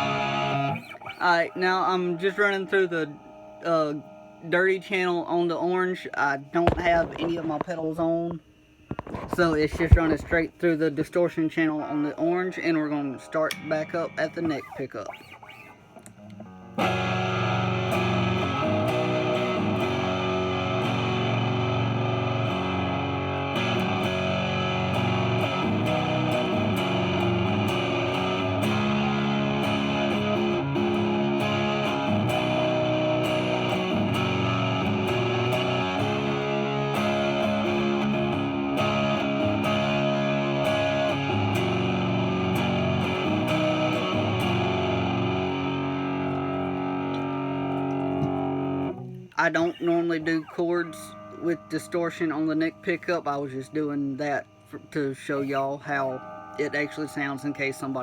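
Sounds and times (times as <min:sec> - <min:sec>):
distorted electric guitar chords: 0:00.0 - 0:10.7, 0:11.4 - 0:58.0.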